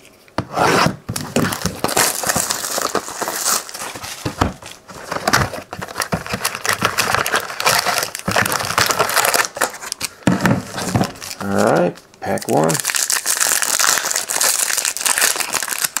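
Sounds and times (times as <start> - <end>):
plastic shrink wrap crinkling: 1.1 - 16.0
foil packs crackling: 1.2 - 16.0.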